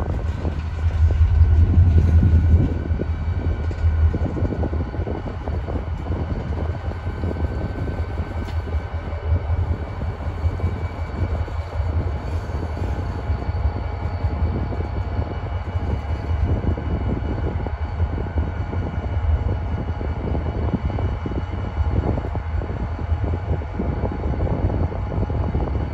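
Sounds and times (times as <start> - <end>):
faint whining tones: 0.0 - 25.9
train rumbling by: 0.0 - 25.9.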